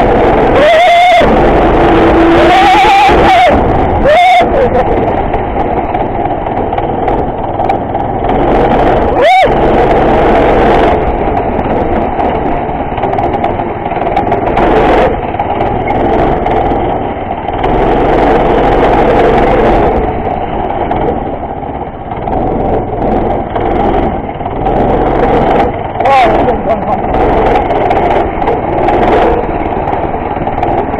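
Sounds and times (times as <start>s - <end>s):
go-kart engine revving: 0.0s - 30.9s.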